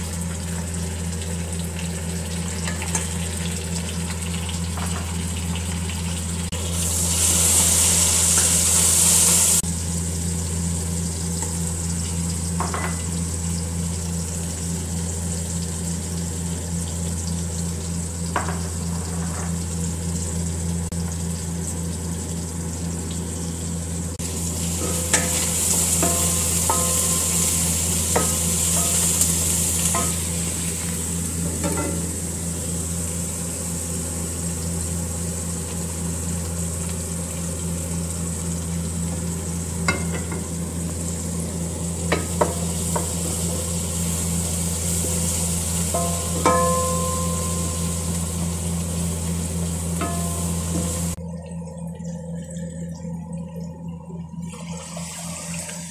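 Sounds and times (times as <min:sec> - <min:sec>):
food sizzling in hot oil: 0:00.0 - 0:51.2
steady low hum: 0:00.0 - 0:55.9.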